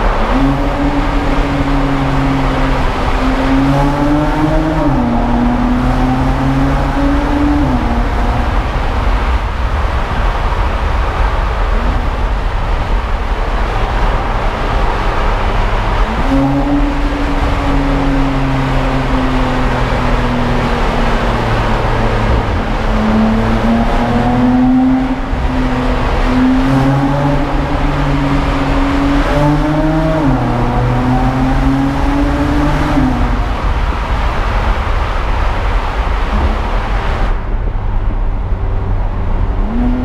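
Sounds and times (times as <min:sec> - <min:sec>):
car engine under load: 0:00.0 - 0:40.0
road and wind noise: 0:00.0 - 0:40.0.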